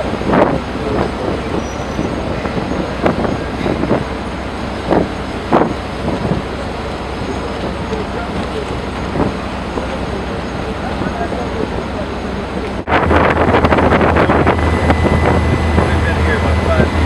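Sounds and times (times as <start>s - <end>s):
boat engines running: 0.0s - 17.0s.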